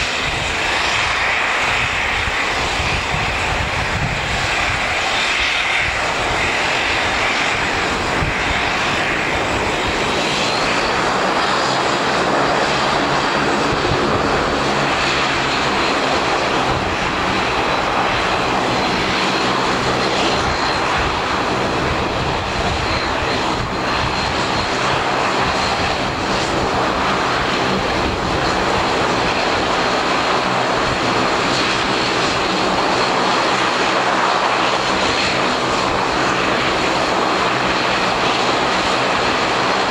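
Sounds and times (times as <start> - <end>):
turboprop engines running: 0.0 - 39.9.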